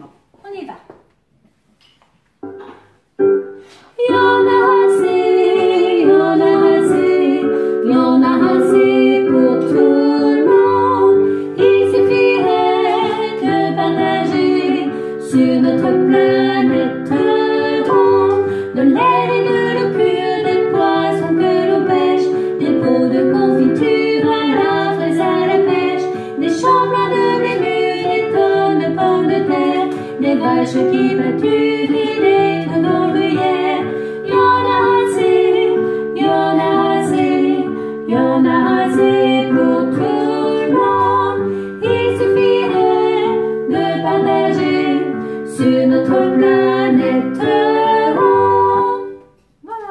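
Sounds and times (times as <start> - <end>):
digital piano: 2.3 - 49.9
woman singing soprano: 3.9 - 49.9.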